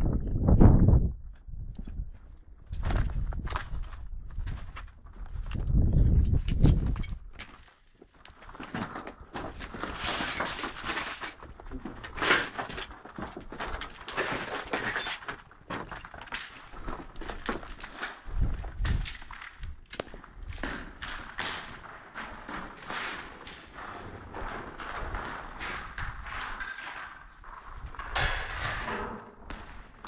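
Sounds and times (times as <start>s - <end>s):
footsteps crunching over rubble: 0.9s - 30.0s.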